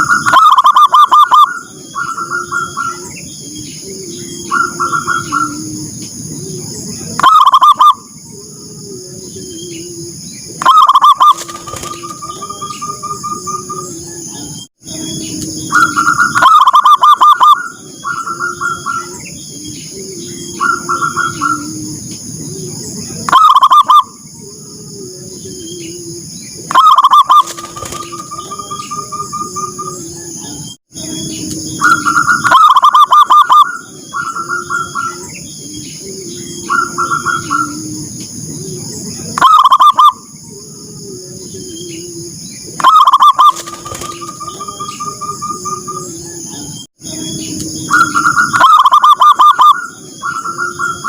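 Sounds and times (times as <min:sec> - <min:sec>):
doves cooing: 0:00.0 - 0:51.0.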